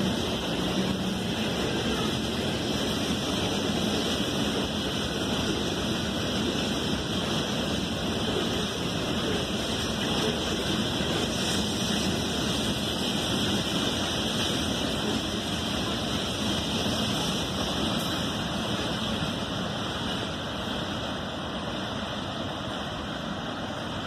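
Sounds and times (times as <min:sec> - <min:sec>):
train wheels rolling on rails: 0:00.0 - 0:24.0.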